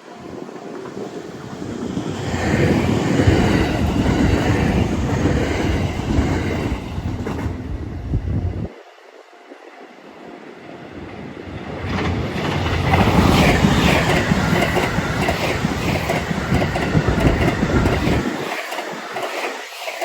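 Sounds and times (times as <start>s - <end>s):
train passing rumble: 0.0s - 20.0s.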